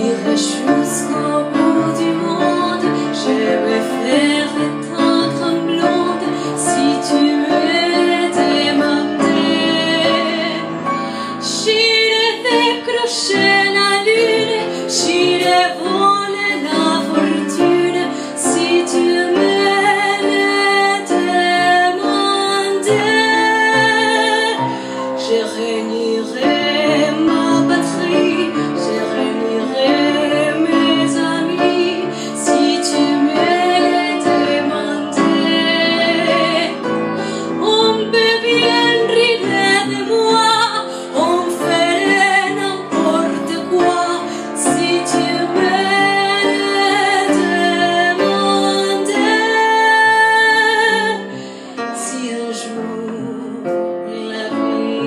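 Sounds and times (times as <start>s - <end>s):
upright piano: 0.0s - 55.0s
woman singing with vibrato: 0.0s - 55.0s.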